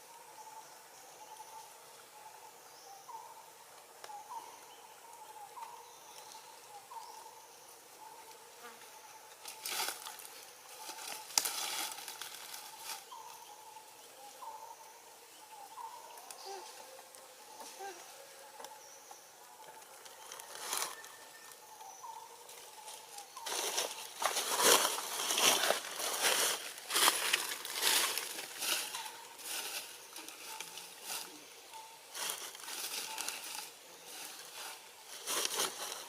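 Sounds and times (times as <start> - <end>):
steady insect drone: 0.0 - 36.0.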